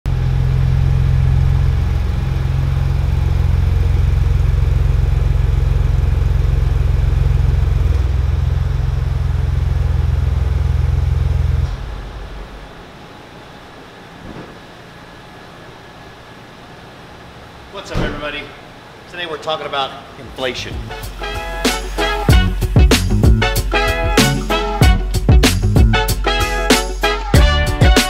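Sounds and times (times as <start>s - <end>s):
car engine idling: 0.0s - 26.4s.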